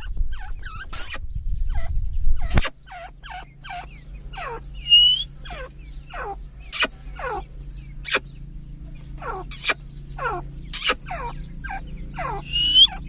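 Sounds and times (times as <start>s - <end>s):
francolins calling: 0.0s - 13.0s
steady low hum: 0.0s - 13.0s.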